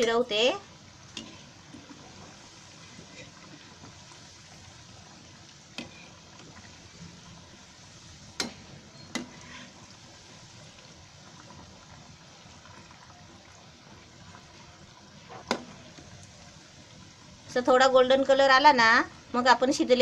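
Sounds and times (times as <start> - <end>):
deep-frying oil sizzling: 0.0 - 20.0.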